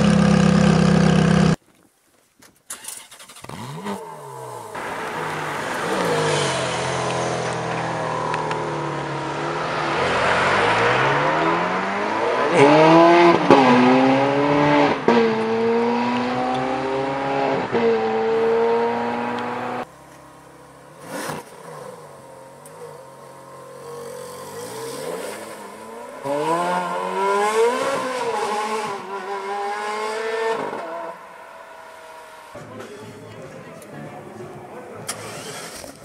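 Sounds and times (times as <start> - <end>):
sports car engine accelerating: 3.6 - 36.0.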